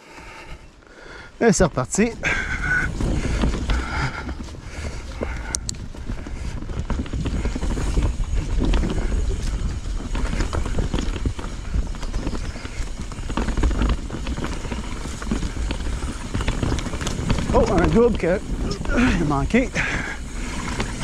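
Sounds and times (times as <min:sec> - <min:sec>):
tyres rumbling on dirt trail: 0:00.0 - 0:21.0
bike clicks and rattles: 0:00.1 - 0:21.0.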